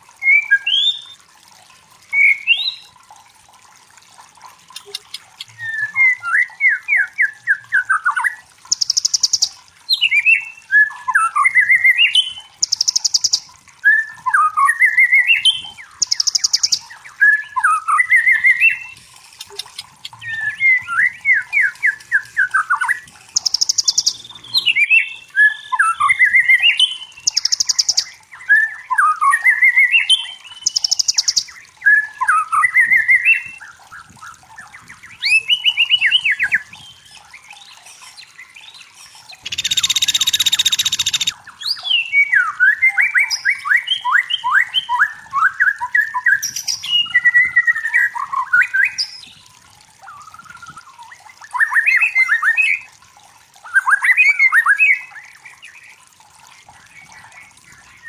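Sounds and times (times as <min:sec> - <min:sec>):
bird song with whistles and trills: 0:00.2 - 0:01.2, 0:02.0 - 0:03.0, 0:04.8 - 0:52.9, 0:53.6 - 0:56.0.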